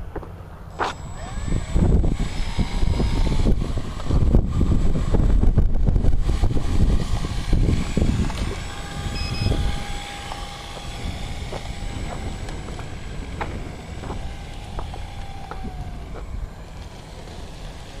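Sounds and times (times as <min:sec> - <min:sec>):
faint steady whine: 0:00.0 - 0:18.0
wind buffeting microphone: 0:01.0 - 0:18.0.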